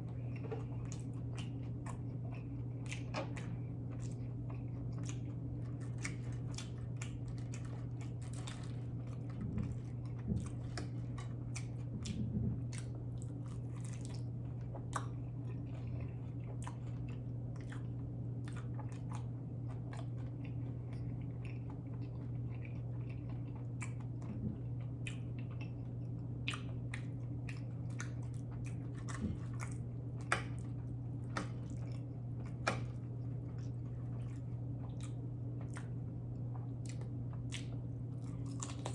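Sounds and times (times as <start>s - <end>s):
person chewing food: 0.0s - 38.9s
steady low hum: 0.0s - 38.9s.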